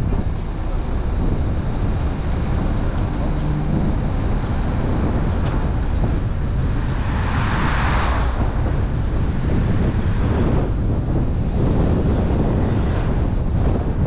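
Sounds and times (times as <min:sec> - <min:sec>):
car road and wind rumble: 0:00.0 - 0:14.0.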